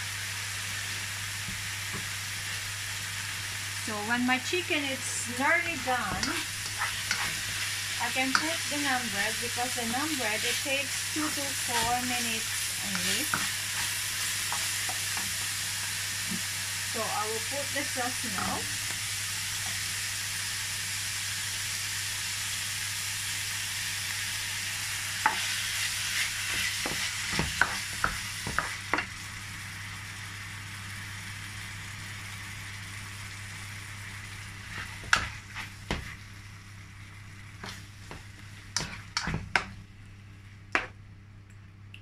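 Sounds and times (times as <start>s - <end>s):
chicken sizzling in frying pan: 0.0s - 40.7s.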